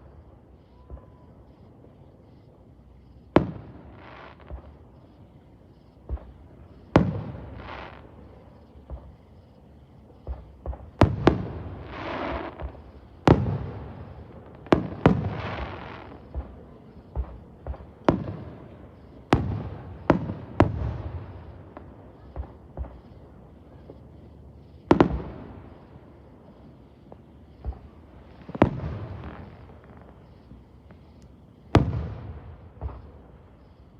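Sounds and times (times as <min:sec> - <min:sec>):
fireworks hiss: 0:00.0 - 0:33.9
fireworks bangs: 0:06.0 - 0:09.5, 0:10.1 - 0:33.9.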